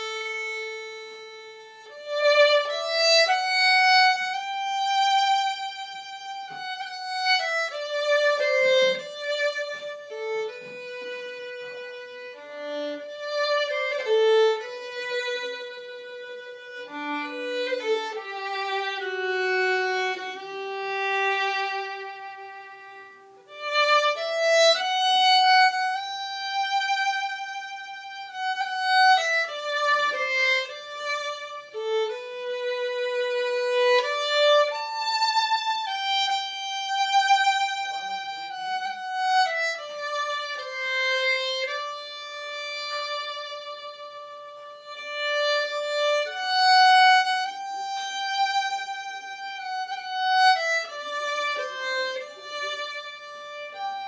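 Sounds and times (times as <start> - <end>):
solo violin slow melody: 0.0 - 54.0.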